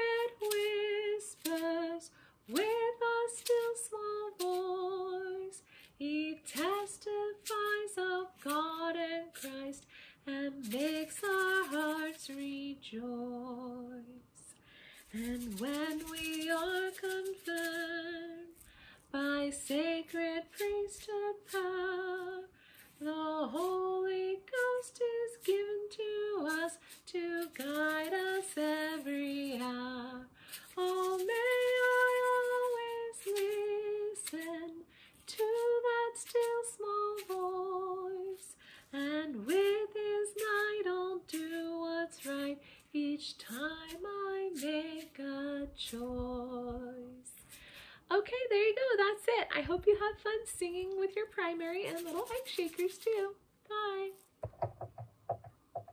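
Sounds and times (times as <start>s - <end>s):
woman singing: 0.0s - 47.5s, 48.1s - 54.3s
egg shaker rattling: 0.0s - 55.9s.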